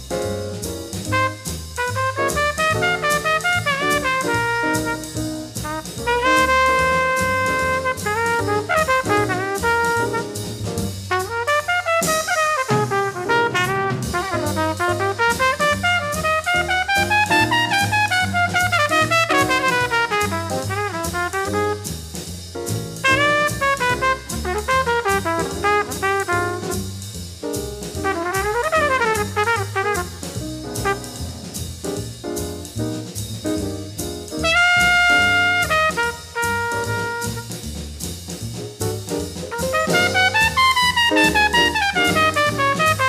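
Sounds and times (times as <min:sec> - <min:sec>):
bass: 0:00.0 - 0:43.0
drums: 0:00.0 - 0:43.0
jazz horn melody: 0:00.0 - 0:43.0.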